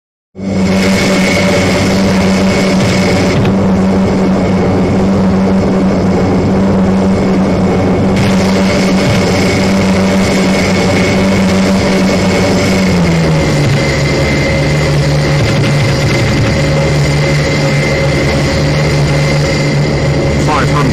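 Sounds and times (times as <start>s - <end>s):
airplane engines droning: 0.4s - 20.9s.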